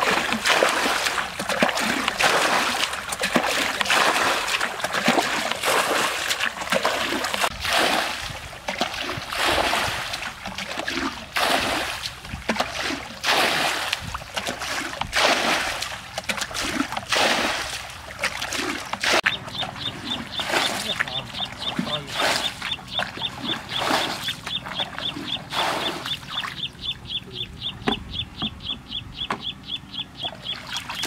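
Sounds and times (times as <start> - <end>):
water splashing from bucket: 0.0 - 26.7, 30.4 - 31.0.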